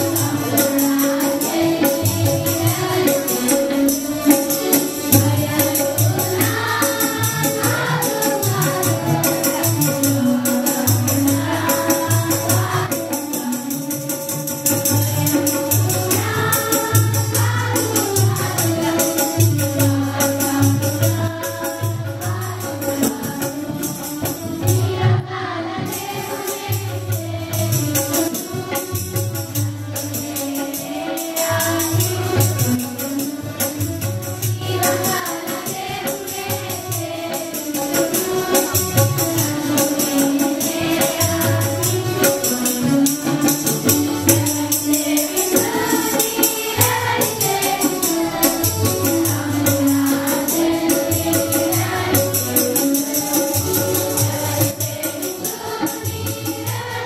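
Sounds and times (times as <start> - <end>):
children's choir singing: 0.0 - 57.0
percussion fast beat: 0.0 - 57.0.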